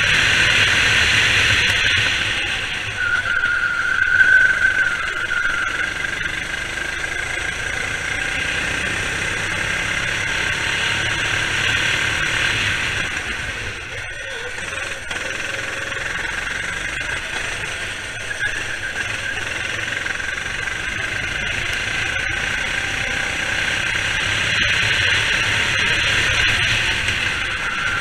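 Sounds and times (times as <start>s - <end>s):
go-kart engine running: 0.0s - 28.0s.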